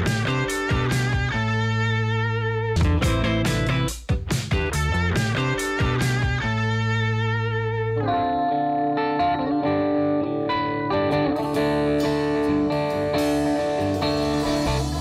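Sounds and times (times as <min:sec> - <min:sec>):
electric guitar melody: 0:00.0 - 0:15.0.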